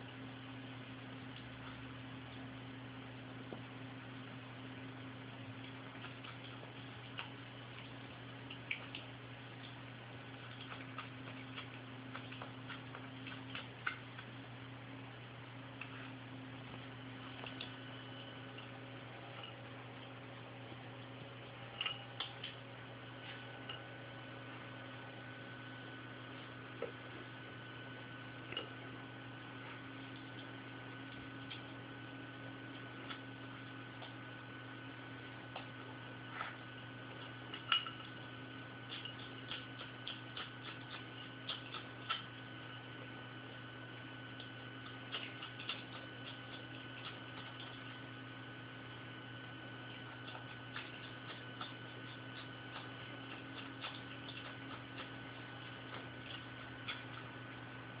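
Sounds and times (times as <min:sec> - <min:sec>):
steady background hum: 0:00.0 - 0:58.0
animal chewing and smacking: 0:00.1 - 0:04.3, 0:05.2 - 0:58.0.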